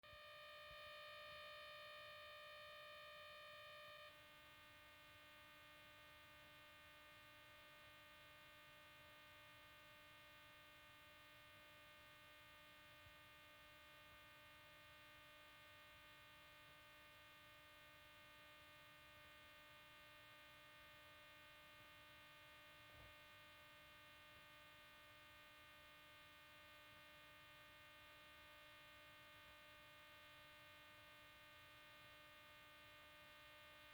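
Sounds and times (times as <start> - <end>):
faint electronic hum: 0.0 - 33.9.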